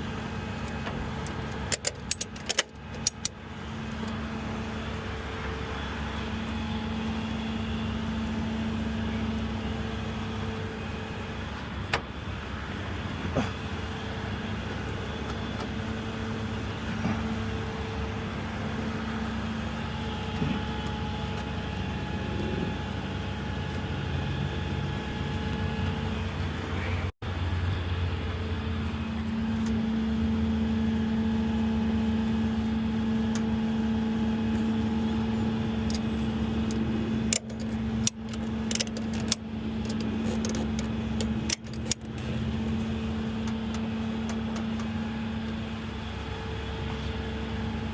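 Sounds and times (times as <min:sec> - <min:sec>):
vehicle engine humming: 0:00.0 - 0:47.9.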